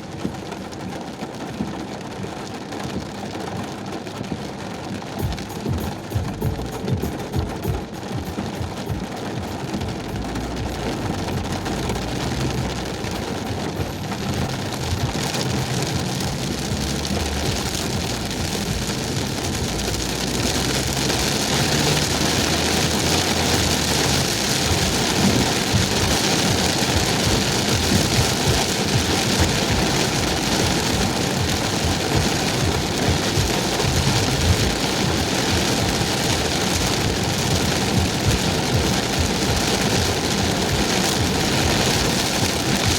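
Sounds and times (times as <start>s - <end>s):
heavy rain on a car: 0.0s - 42.9s
low engine hum: 5.2s - 42.9s.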